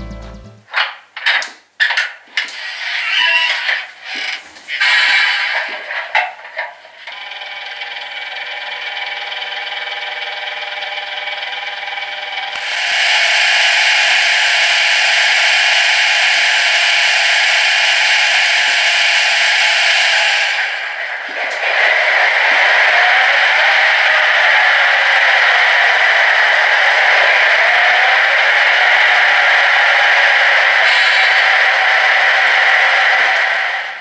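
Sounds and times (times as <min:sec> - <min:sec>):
model train diesel engine sound: 0:05.1 - 0:34.0.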